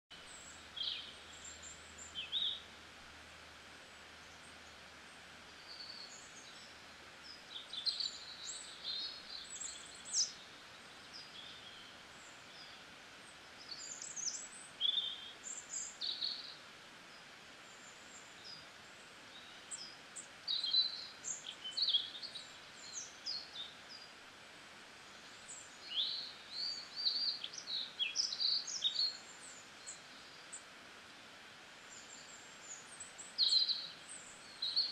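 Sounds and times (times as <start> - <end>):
birds chirping: 0.1 - 2.7, 3.8 - 30.8, 31.8 - 34.9
faint steady hiss: 0.1 - 34.9.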